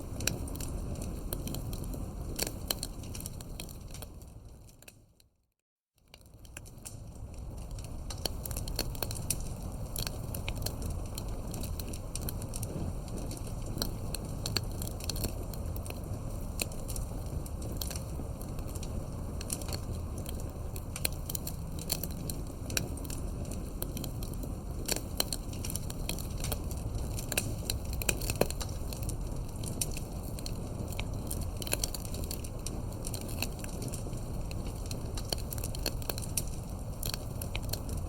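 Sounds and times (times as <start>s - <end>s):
wood fire crackling and popping: 0.0s - 5.2s, 6.0s - 38.0s.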